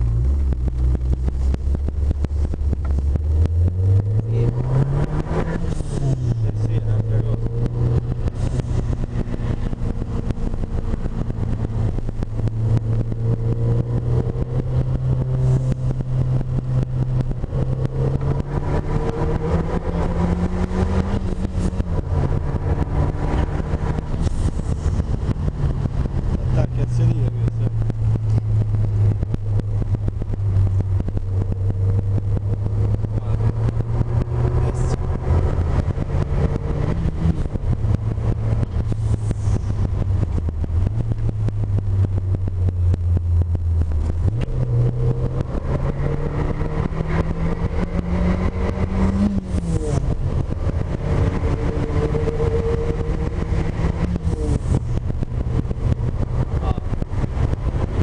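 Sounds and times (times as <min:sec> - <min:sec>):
car engine from inside cabin: 0:00.0 - 0:58.0
road noise: 0:00.0 - 0:58.0.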